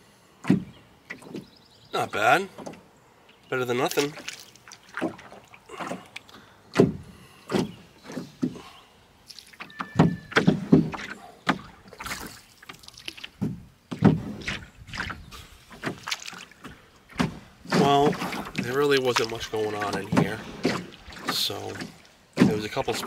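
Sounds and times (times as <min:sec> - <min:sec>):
paddle splashing through water: 0:00.4 - 0:23.0.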